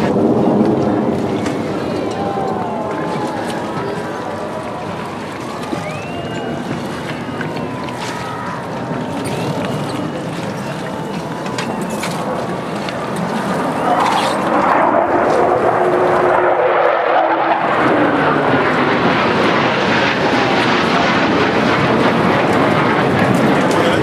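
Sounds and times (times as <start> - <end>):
jet flying past: 0.0 - 24.0.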